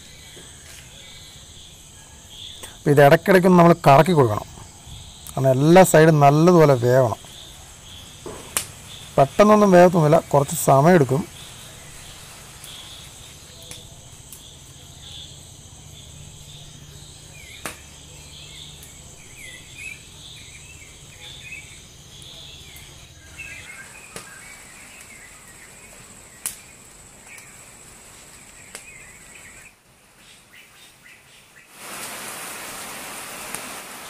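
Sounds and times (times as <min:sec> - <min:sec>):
birds chirping: 0:00.0 - 0:27.8, 0:28.4 - 0:31.7
wood fire popping: 0:00.0 - 0:29.7
high insect drone: 0:00.0 - 0:29.8
rain: 0:02.6 - 0:30.9, 0:31.6 - 0:34.0.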